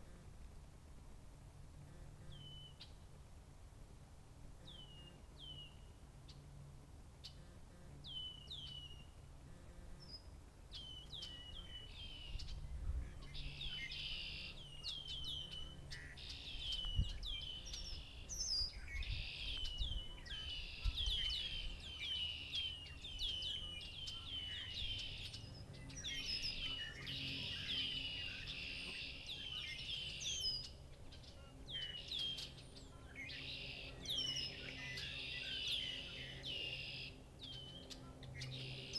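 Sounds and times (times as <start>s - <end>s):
songbird chorus: 1.5s - 3.3s, 4.4s - 38.9s.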